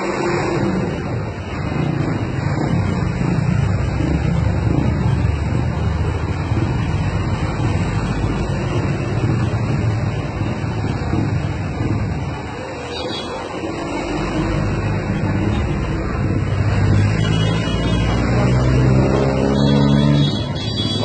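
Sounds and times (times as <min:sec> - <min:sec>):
car and motorcycle engines: 0:00.0 - 0:21.0.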